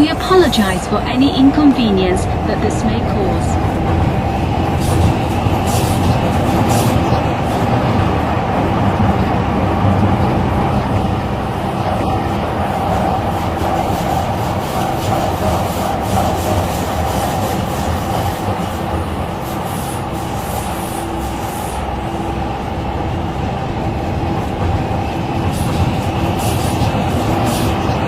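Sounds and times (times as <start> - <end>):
continuous hum: 0.0 - 28.0
train wheels rumbling on rail: 0.0 - 28.0.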